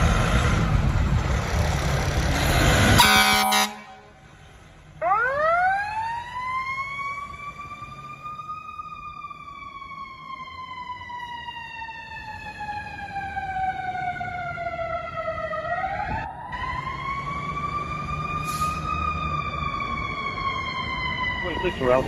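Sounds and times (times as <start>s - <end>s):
fire engine siren wailing: 2.6s - 22.0s.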